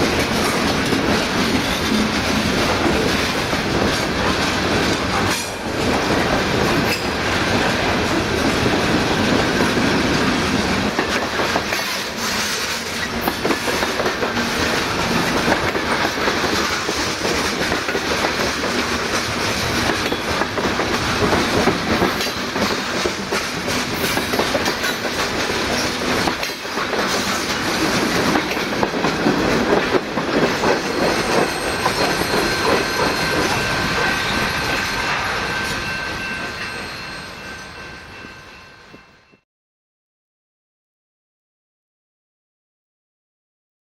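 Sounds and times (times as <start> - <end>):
train wheels clacking: 0.0 - 39.1.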